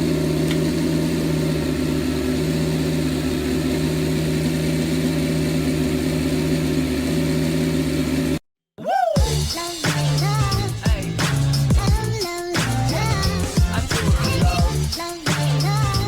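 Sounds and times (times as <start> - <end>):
small engine humming: 0.0 - 8.4, 9.2 - 16.0.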